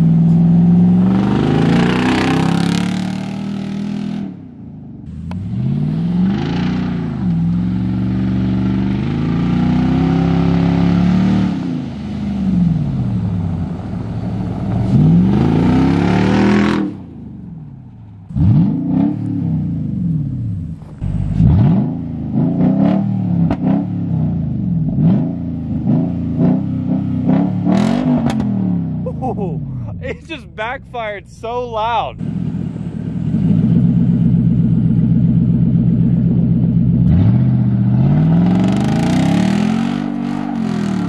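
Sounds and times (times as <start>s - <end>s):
truck engine exhaust accelerating: 0.0s - 41.0s.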